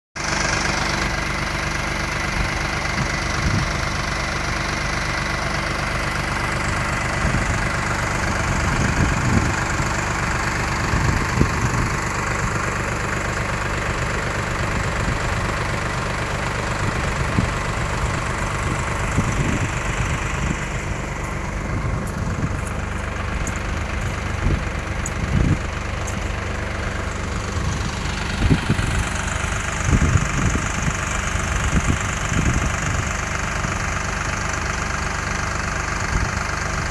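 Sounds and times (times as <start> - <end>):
tractor engine running: 0.2 - 36.9.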